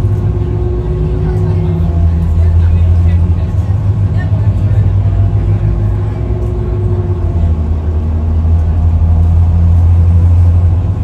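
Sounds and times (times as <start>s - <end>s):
car engine and tyres droning: 0.0s - 11.0s.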